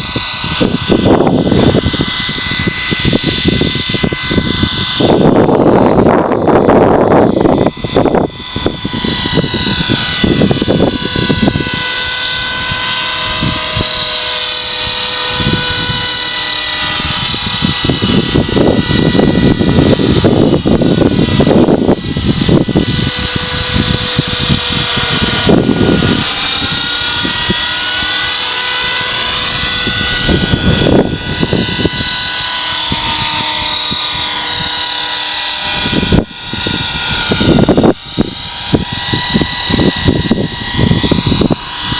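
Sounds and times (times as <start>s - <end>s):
rc helicopter high whine: 0.0s - 41.9s
wind buffeting microphone: 0.0s - 41.9s.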